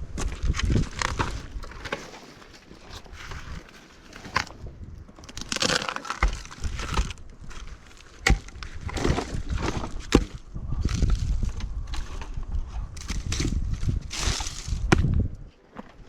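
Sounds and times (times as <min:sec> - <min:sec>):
dry wood cracking and crunching: 0:00.0 - 0:16.0.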